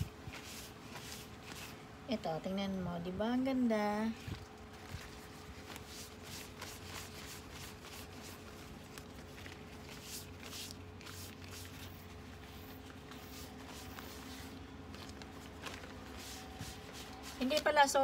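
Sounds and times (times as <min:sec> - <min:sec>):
faint steady hum: 0:00.0 - 0:18.0
leaves rustling under a cloth: 0:00.0 - 0:18.0.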